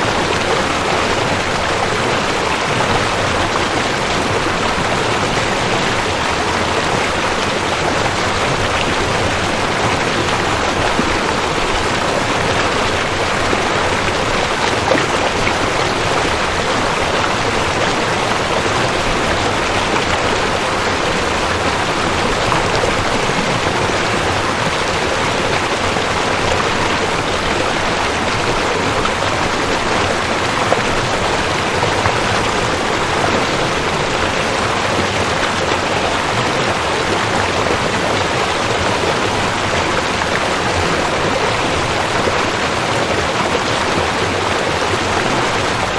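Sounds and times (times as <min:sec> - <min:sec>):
water running over rocks: 0:00.0 - 0:45.9.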